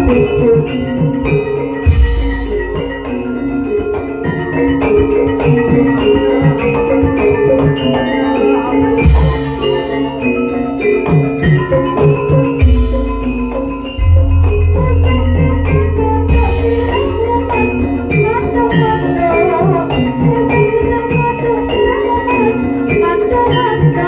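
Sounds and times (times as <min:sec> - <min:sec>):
metallophones and kettle gongs: 0:00.0 - 0:24.0.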